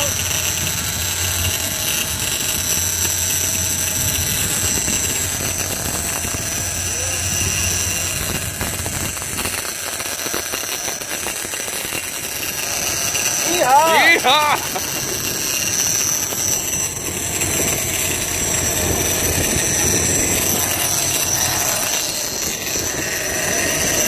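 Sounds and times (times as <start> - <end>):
fishing reel drag whining: 0.0 - 24.0
low hum: 0.0 - 24.0.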